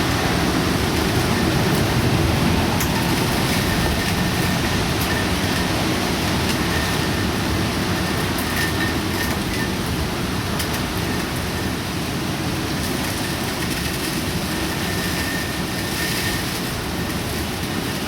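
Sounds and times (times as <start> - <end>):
wind and rain rushing: 0.0 - 18.0.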